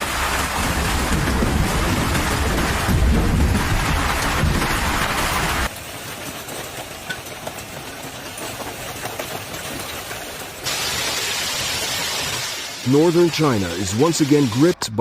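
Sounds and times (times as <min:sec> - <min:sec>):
rain patter with ticks: 0:00.0 - 0:14.2
hail and rain drumming: 0:00.0 - 0:14.5.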